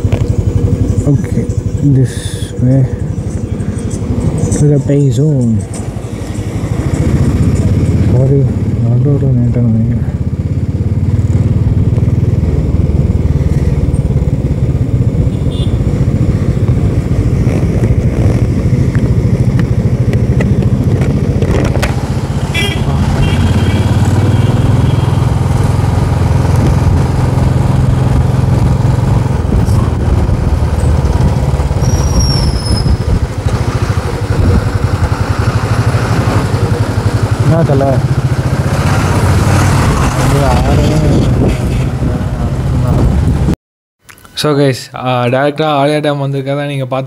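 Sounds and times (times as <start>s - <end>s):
motorcycle engine running: 0.0s - 43.6s
wind and road noise: 0.0s - 43.6s.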